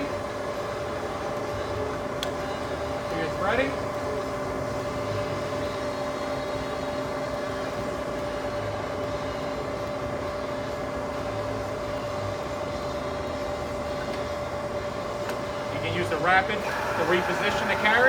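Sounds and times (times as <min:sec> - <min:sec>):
lathe machine hum: 0:02.7 - 0:18.0.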